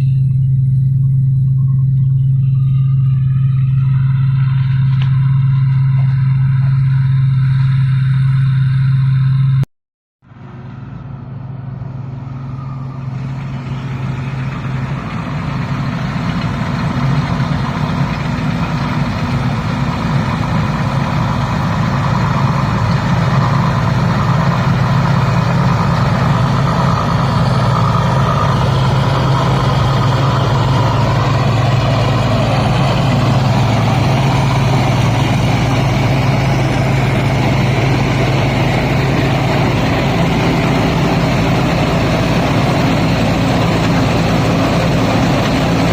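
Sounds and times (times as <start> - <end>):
combine harvester diesel engine: 0.0 - 9.6, 10.2 - 45.9.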